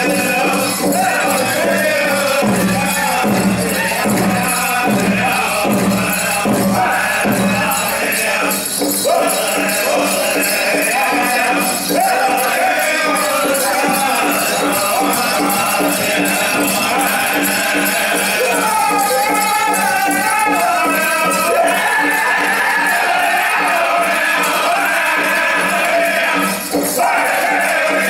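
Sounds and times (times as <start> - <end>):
bells jingling: 0.0 - 28.0
big drum beat: 0.0 - 28.0
group singing in unison: 0.0 - 28.0.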